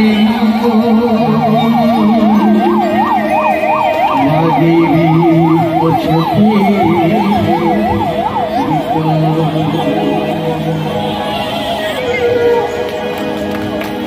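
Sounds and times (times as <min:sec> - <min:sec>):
electronic siren yelping: 0:01.0 - 0:12.8.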